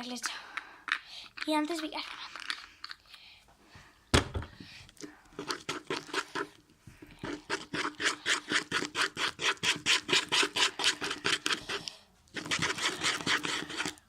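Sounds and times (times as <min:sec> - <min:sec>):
slime being stirred: 0:00.0 - 0:03.2, 0:04.9 - 0:14.0.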